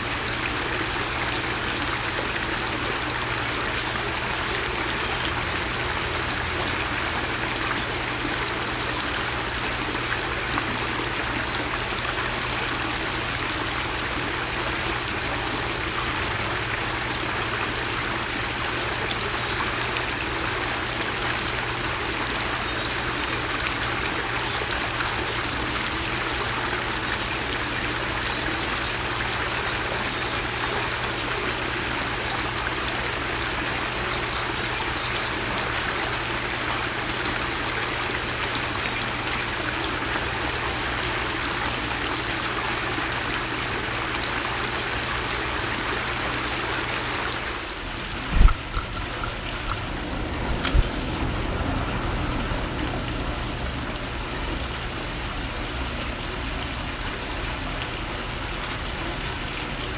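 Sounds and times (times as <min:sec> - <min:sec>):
rushing water noise: 0:00.0 - 0:59.9.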